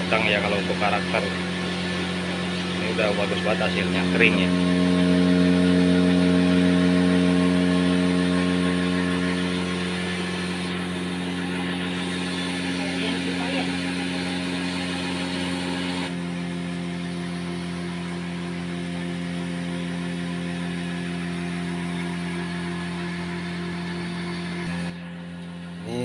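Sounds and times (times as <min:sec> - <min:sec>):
cotton candy machine hum: 0:00.0 - 0:26.0.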